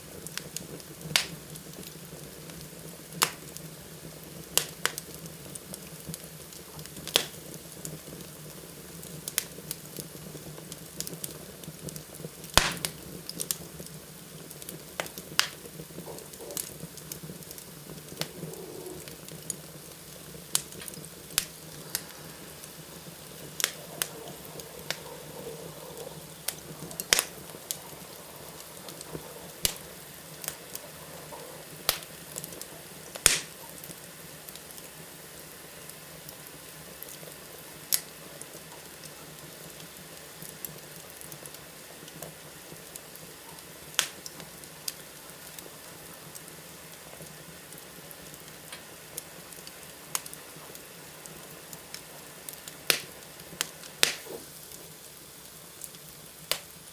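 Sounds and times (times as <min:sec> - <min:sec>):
fire crackling: 0:00.0 - 0:56.9
fire popping: 0:00.0 - 0:56.9.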